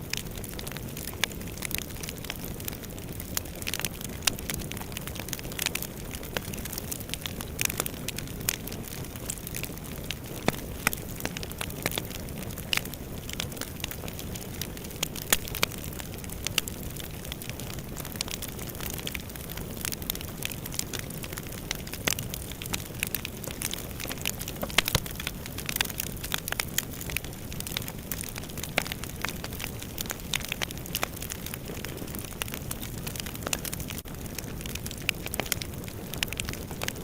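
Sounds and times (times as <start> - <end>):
fire burning in fireplace: 0.0 - 37.0
fire crackling and popping: 0.0 - 37.0.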